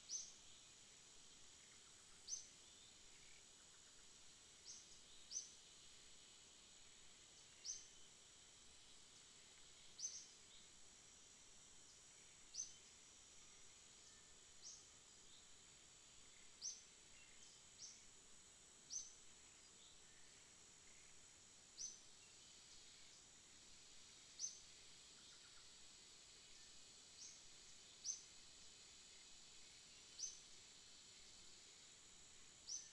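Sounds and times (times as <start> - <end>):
high insect hum: 0.0 - 32.9.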